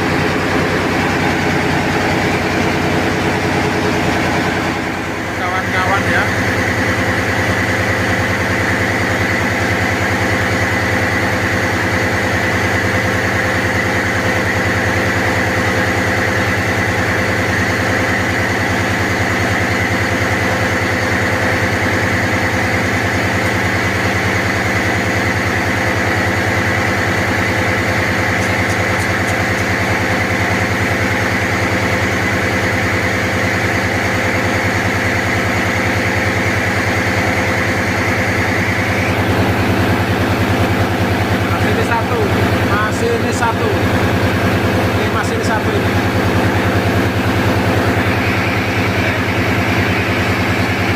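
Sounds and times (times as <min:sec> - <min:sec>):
diesel engine drone: 0:00.0 - 0:50.9
high-pitched machine whine: 0:00.0 - 0:50.9.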